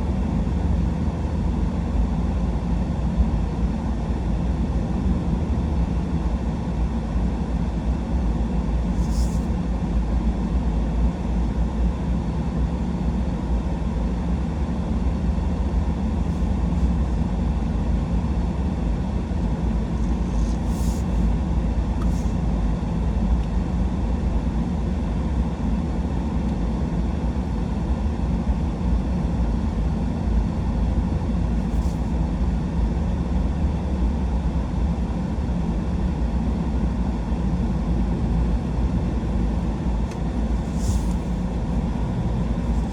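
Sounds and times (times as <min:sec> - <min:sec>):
truck cab road and engine rumble: 0:00.0 - 0:42.9.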